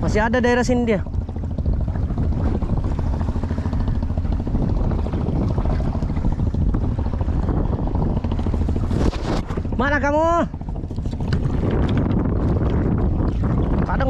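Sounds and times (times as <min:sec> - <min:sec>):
boat engine rumbling: 0:00.0 - 0:14.0
choppy water washing: 0:00.0 - 0:14.0.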